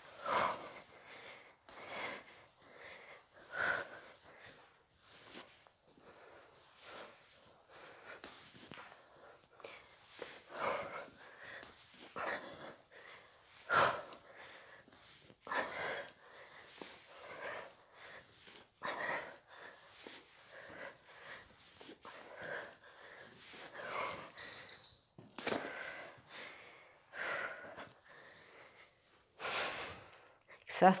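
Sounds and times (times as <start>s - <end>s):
woman panting: 0.0s - 24.5s, 25.4s - 30.8s.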